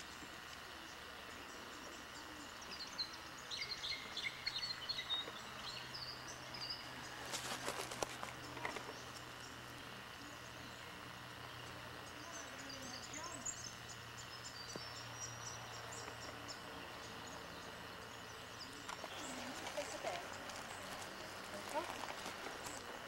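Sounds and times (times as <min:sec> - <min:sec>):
small birds chirping: 0:00.0 - 0:23.0
steady background hiss: 0:00.0 - 0:23.0.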